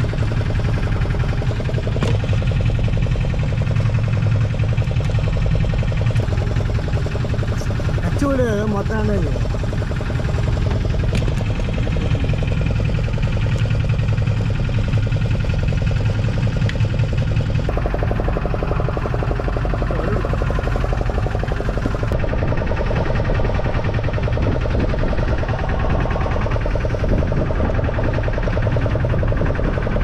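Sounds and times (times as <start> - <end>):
boat engine throbbing: 0.0 - 30.0.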